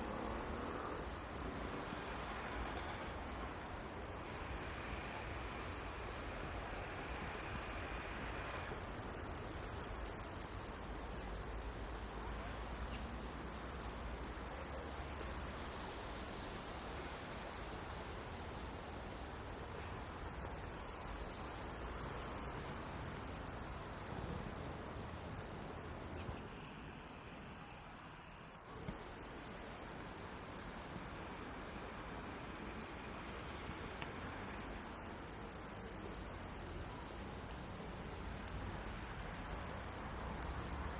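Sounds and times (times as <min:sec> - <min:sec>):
slow insect chirp: 0:00.0 - 0:40.9.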